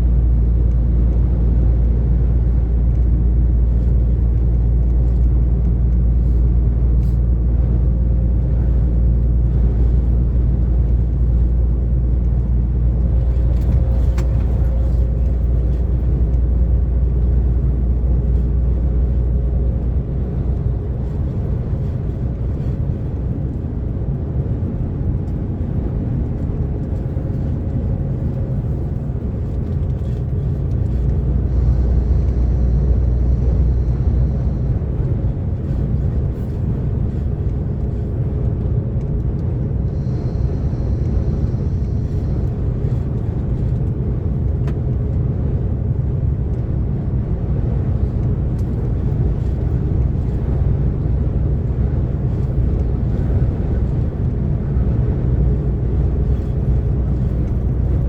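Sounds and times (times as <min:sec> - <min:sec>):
truck diesel engine cruising: 0:00.0 - 0:58.0
tyre and road noise: 0:00.0 - 0:58.0.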